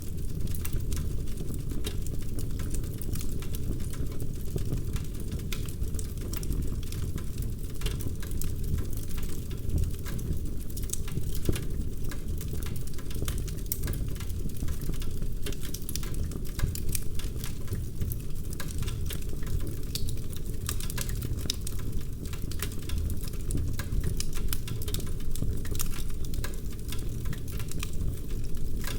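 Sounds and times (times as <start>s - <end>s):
fire crackling: 0.0s - 28.9s.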